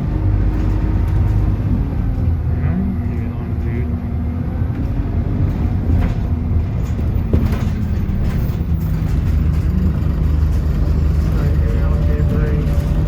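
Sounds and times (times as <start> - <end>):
bus engine running: 0.0 - 13.0
road noise rumble: 0.0 - 13.0.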